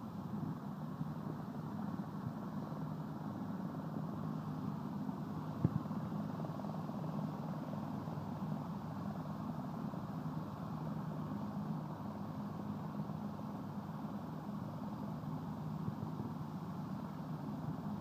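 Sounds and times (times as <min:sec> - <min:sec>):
helicopter rotor and turbine drone: 0:00.0 - 0:18.0.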